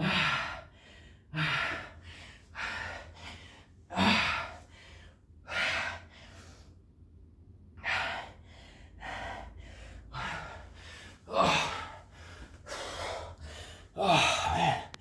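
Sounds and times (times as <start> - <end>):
man breathing hard: 0.0 - 6.8, 7.8 - 15.0.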